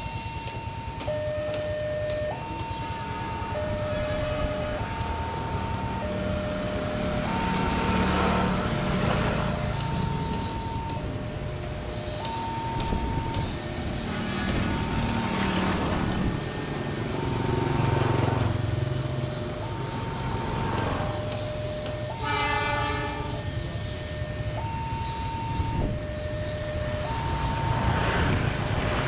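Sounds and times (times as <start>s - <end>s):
level crossing warning signal: 0.0s - 29.0s.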